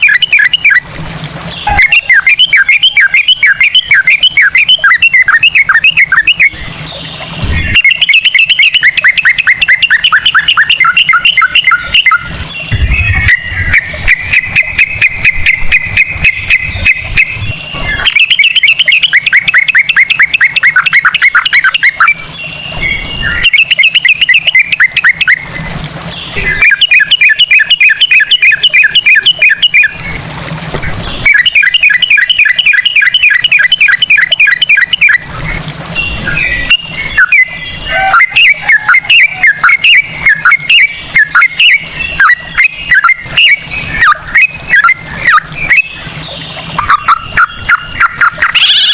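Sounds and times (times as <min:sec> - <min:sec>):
bird singing fast repeated notes: 0:00.0 - 0:48.9.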